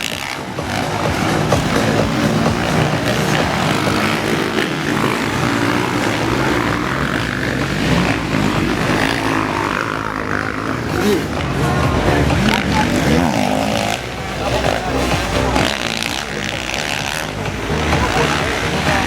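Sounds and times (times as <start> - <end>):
dirt bike engines droning: 0.0 - 19.0.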